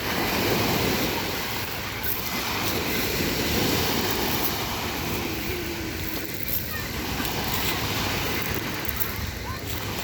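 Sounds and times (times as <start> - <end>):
waves washing onto pebble beach: 0.0 - 10.0.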